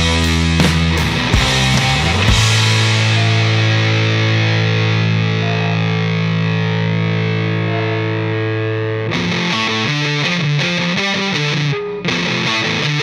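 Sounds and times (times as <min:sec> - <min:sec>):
distorted electric guitar rock: 0:00.0 - 0:13.0.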